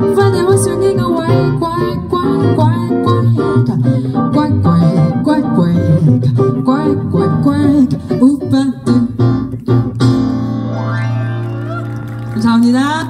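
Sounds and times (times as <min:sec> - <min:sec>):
live jazz trio playing: 0:00.0 - 0:12.4.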